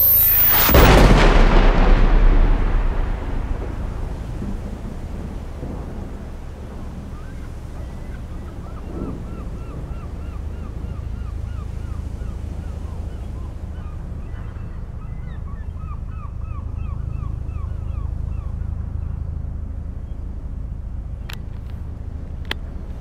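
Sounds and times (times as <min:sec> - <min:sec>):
wind rumble: 0:00.0 - 0:23.0.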